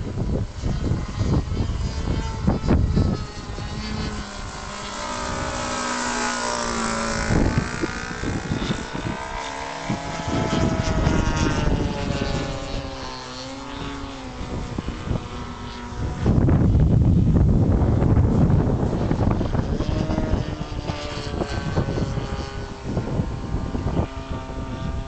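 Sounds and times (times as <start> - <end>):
model aeroplane engine in flight: 0.0 - 25.0
wind buffeting microphone: 0.0 - 25.0.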